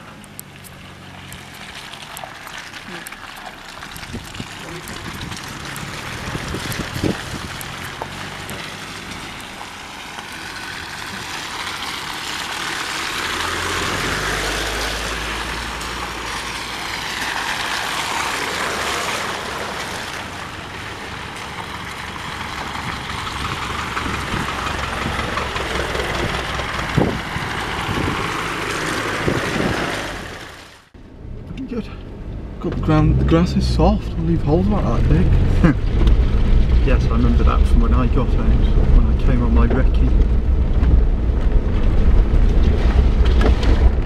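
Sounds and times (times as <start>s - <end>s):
off-road vehicle engines running: 0.0s - 44.0s
tyres rolling through mud and gravel: 0.0s - 44.0s.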